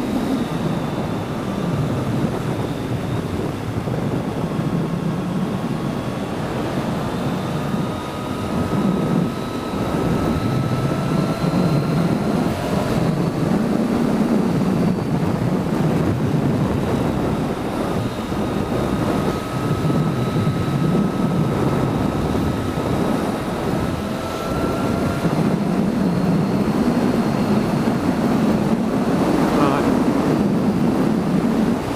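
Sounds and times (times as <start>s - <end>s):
motorcycle engine: 0.0s - 31.9s
wind rushing over microphone: 0.0s - 31.9s.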